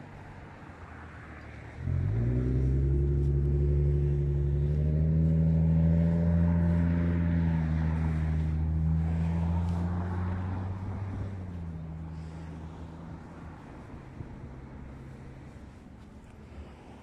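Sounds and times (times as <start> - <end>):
large engine droning: 0.0 - 17.0.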